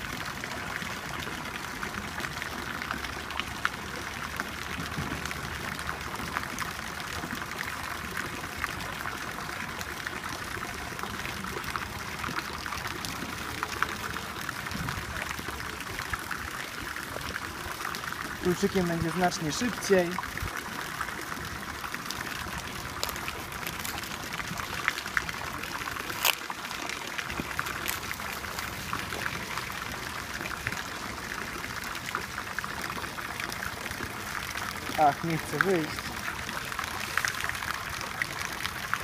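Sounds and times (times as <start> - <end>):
fountain water splashing: 0.0 - 39.0.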